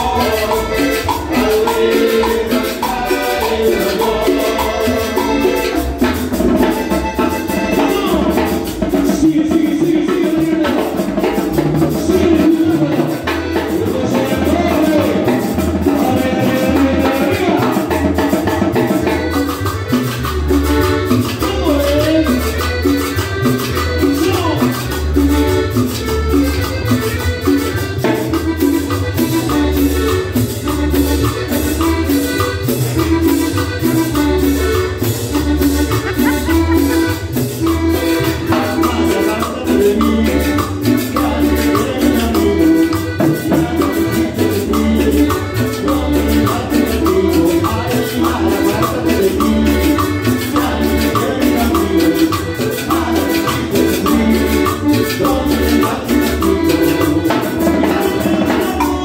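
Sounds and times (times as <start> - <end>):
live latin dance band: 0.0 - 59.0.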